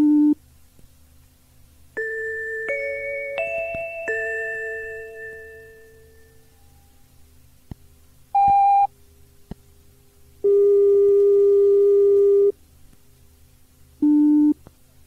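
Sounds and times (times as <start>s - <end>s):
lower steady tone: 0.0s - 0.4s, 1.9s - 12.6s, 13.2s - 14.7s
faint tape hiss: 0.0s - 15.0s.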